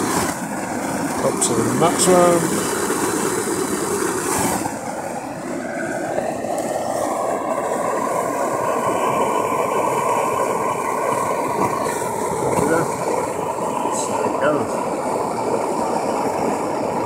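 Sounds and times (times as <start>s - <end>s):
blowtorch roaring: 0.0s - 17.0s.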